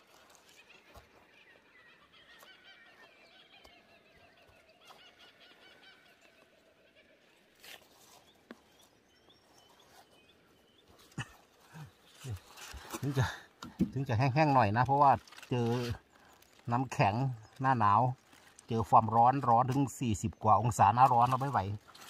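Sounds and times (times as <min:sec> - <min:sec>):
distant bird calls: 0:00.0 - 0:22.0.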